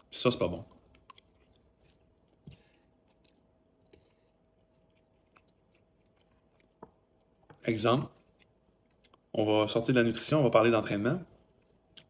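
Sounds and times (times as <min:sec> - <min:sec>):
faint chewing: 0:00.0 - 0:09.4, 0:11.3 - 0:12.0.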